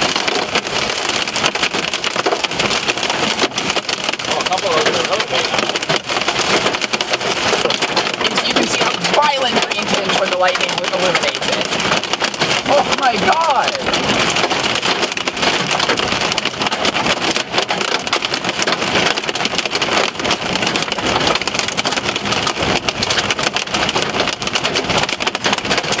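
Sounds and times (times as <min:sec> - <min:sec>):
hail and rain on car roof: 0:00.0 - 0:26.0.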